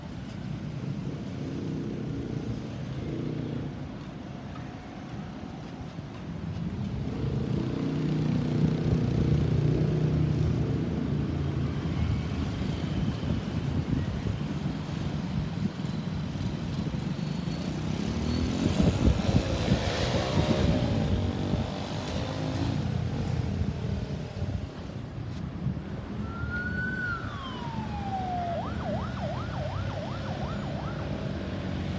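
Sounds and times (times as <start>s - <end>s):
passing vehicles: 0.0s - 31.9s.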